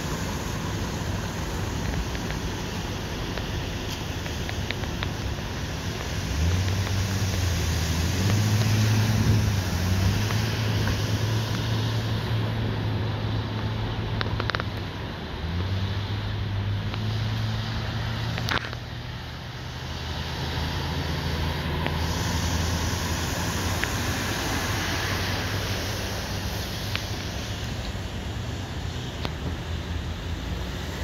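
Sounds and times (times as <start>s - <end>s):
car engines humming: 0.0s - 31.0s
water spray from tyres: 0.0s - 31.0s.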